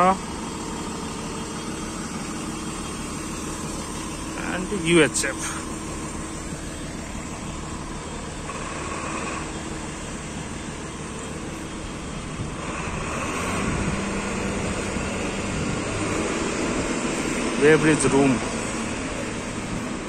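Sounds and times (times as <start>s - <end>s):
low vehicle engine hum: 0.0s - 20.0s.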